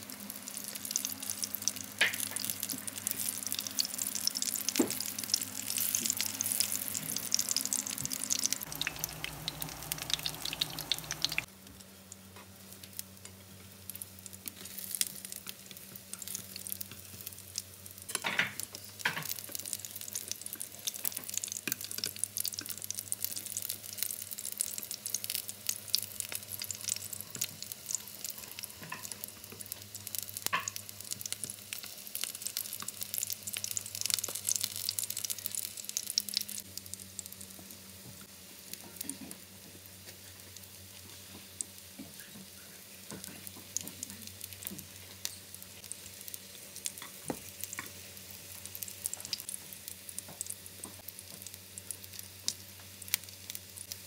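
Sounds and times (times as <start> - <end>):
patties sizzling in oil: 0.0 - 54.0.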